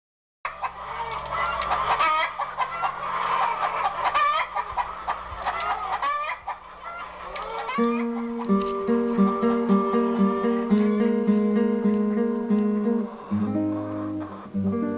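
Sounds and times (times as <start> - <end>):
hens clucking and squawking: 0.5 - 14.9.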